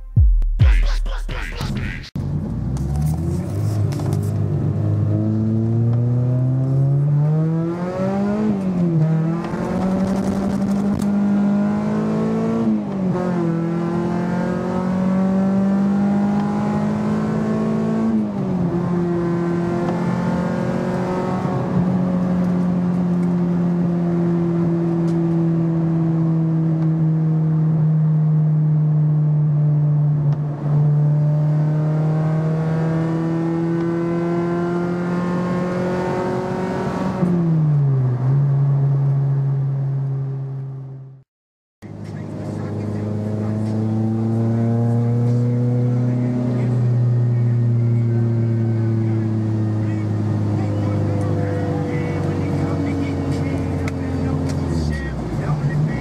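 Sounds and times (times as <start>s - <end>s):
car engine from inside cabin: 2.2s - 40.9s, 41.8s - 56.0s.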